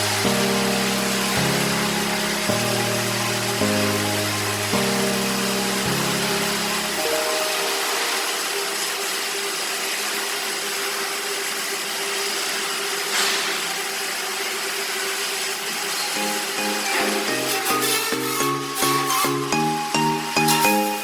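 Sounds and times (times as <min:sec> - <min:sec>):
welding arc crackling hiss: 0:00.0 - 0:11.6, 0:12.3 - 0:21.0.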